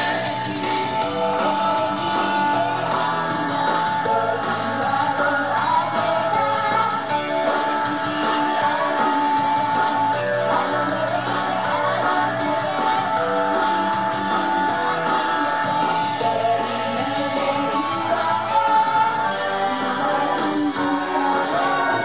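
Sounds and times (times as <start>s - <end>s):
upbeat pop song: 0.0s - 22.0s
woman singing into microphone: 0.0s - 22.0s.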